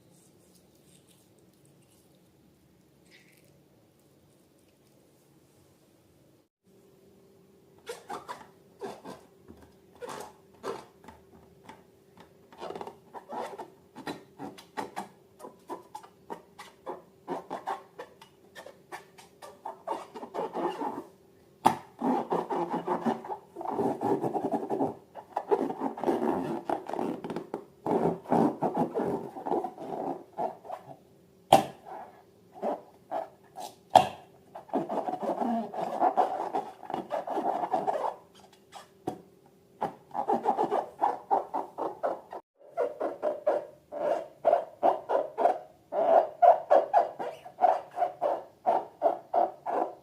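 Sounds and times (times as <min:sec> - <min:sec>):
faint steady hum: 0:00.0 - 0:42.8.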